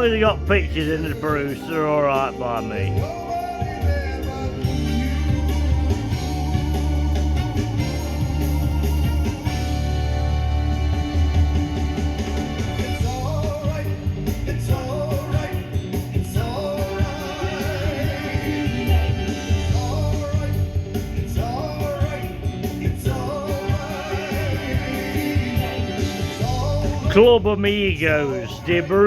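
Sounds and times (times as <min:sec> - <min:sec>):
rock and roll song: 0:00.0 - 0:29.0.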